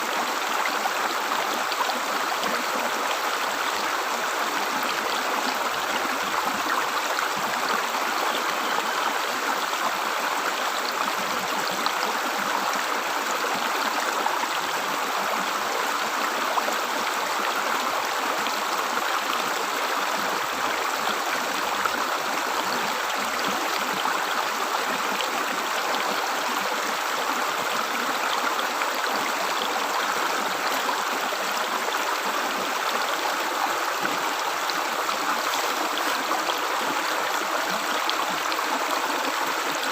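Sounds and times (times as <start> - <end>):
river water gurgling over rocks: 0.0 - 39.9.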